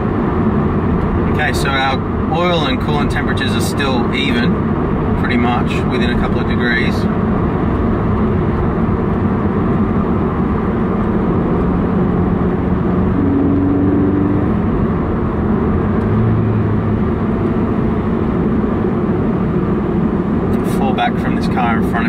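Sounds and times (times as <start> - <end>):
car engine running: 0.0 - 22.0
tyre and road noise: 0.0 - 22.0.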